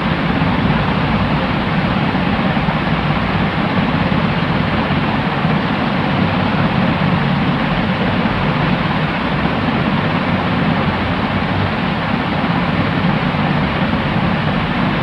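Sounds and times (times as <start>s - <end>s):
steady white noise hiss: 0.0s - 15.0s.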